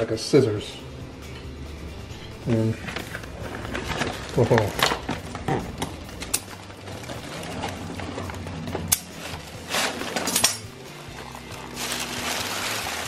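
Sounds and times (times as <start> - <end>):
plastic bag rustling: 2.5 - 13.0.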